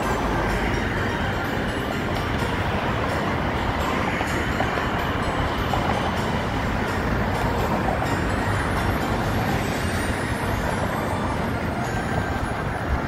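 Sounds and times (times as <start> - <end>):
faint rail squealing: 0.0 - 13.0
train rumbling past: 0.0 - 13.0.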